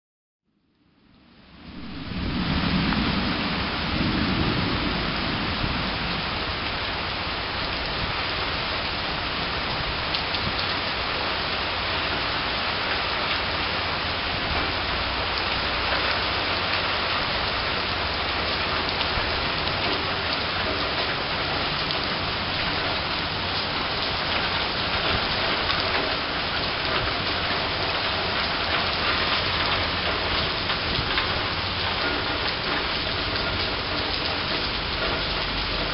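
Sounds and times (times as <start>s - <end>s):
rain falling: 0.6s - 35.9s
low rumble of thunder: 1.0s - 10.6s, 13.5s - 35.9s.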